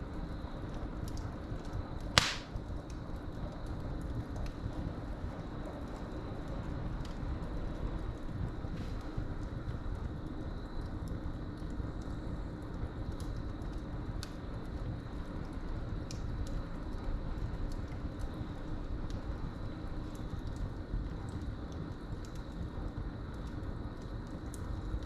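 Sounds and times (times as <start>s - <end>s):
fire crackling and popping: 0.0s - 25.0s
wood fire rumbling: 0.0s - 25.0s.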